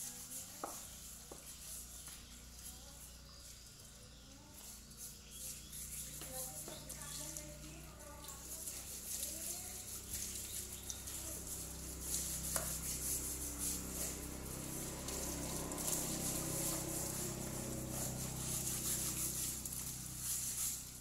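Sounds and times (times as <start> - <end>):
water running from a tap: 0.2 - 21.0.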